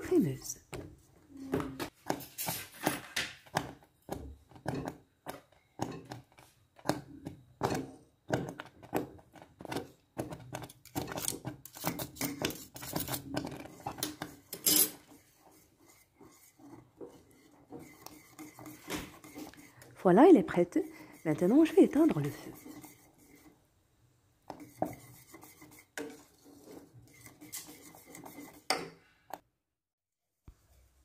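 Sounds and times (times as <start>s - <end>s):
whisk scraping metal saucepan: 2.0s - 23.6s, 24.5s - 29.4s.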